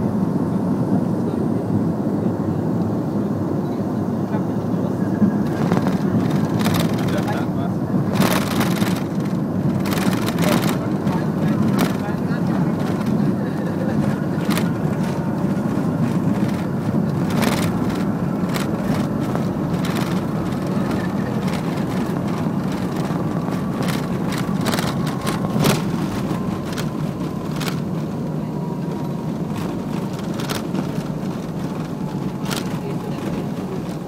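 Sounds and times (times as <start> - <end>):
jet engines deep rumble: 0.0 - 34.0
engine whine falling in pitch: 5.1 - 34.0.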